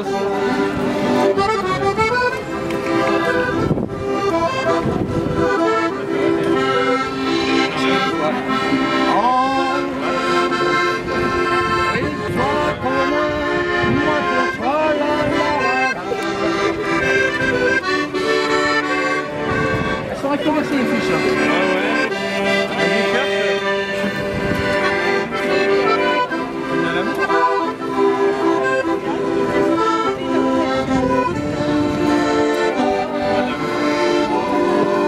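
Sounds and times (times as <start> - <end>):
accordion playing: 0.0 - 35.0.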